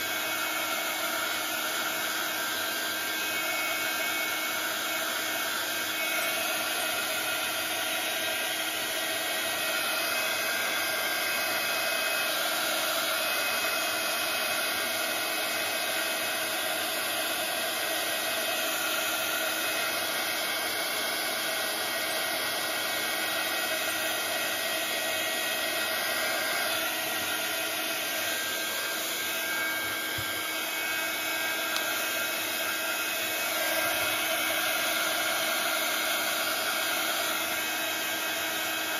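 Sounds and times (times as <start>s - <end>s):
heat gun blowing with fan whine: 0.0s - 38.9s.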